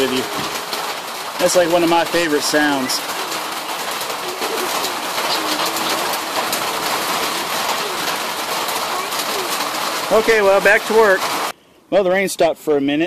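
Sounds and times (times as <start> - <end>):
rain on a tin roof: 0.0 - 11.6.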